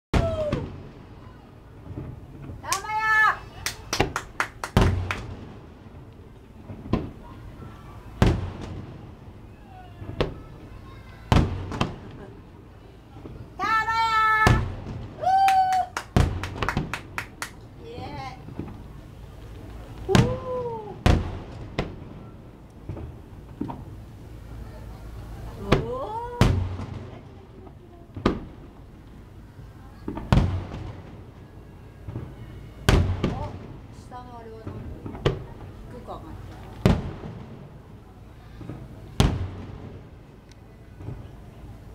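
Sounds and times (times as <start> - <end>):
fireworks bursting: 0.2 - 41.9.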